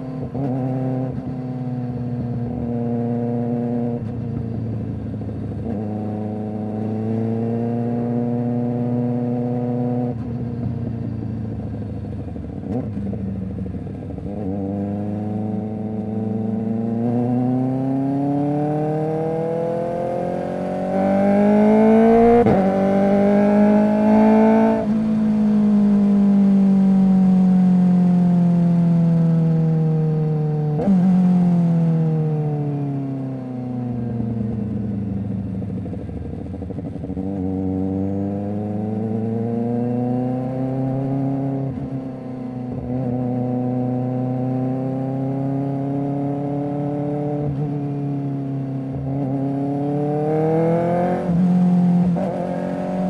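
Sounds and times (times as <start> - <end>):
motorcycle engine shifting gears: 0.0 - 53.0.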